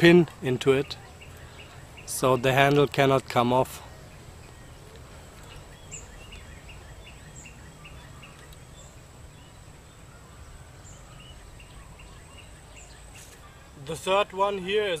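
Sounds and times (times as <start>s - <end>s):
faint higher chirps: 0.0s - 14.1s
bird chirping: 0.0s - 15.0s.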